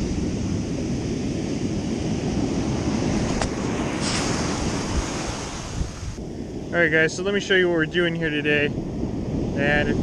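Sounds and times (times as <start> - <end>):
surf breaking on beach: 0.0 - 10.0
wind rumbling on microphone: 0.0 - 10.0.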